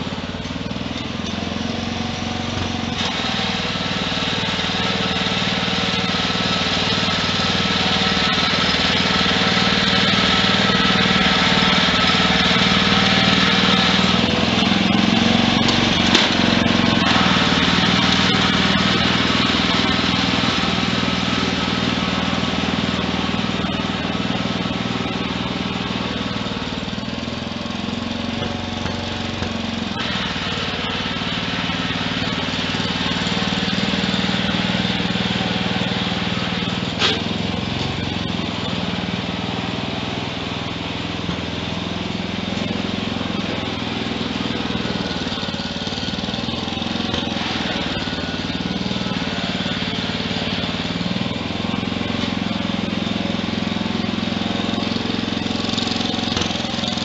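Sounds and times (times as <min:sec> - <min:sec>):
small tractor engine running: 0:00.0 - 0:57.0.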